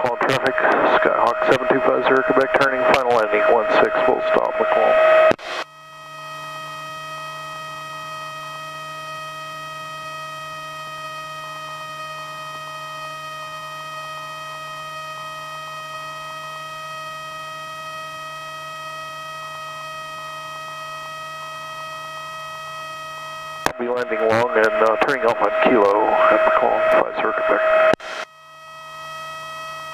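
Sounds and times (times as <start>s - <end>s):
electrical hum with high whine: 0.0s - 29.9s.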